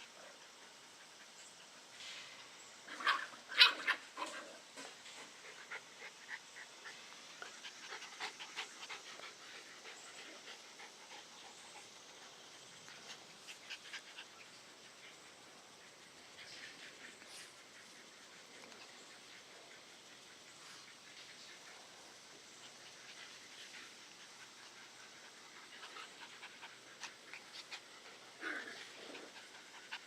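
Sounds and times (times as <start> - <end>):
puppies panting: 5.1 - 21.7, 22.4 - 30.0.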